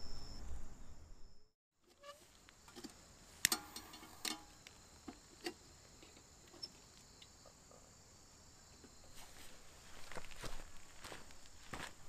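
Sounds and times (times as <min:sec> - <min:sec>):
high drone of insects: 0:02.0 - 0:12.0.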